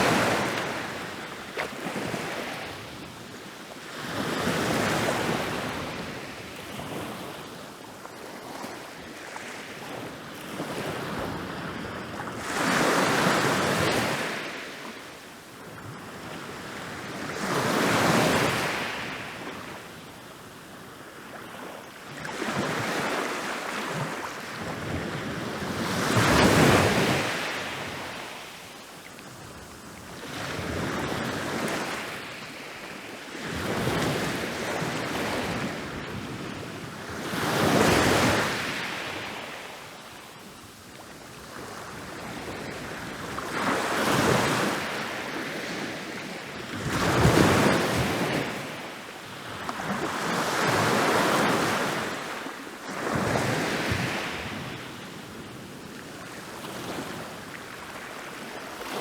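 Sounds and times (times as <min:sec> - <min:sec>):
ocean waves breaking on a beach: 0:00.0 - 0:59.0.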